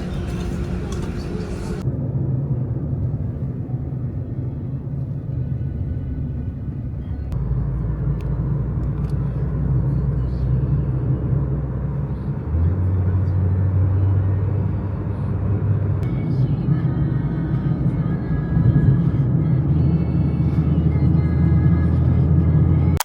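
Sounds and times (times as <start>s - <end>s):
car engine and road noise: 0.0s - 23.0s
low hum: 0.0s - 23.0s.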